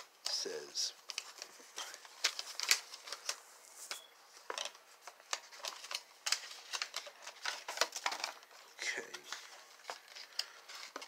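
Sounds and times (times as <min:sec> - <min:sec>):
paper rustling: 0:00.5 - 0:11.0.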